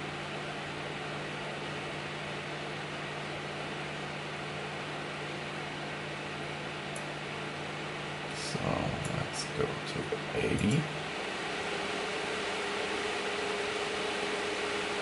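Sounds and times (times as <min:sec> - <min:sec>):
cooling fans rushing: 0:00.0 - 0:15.0.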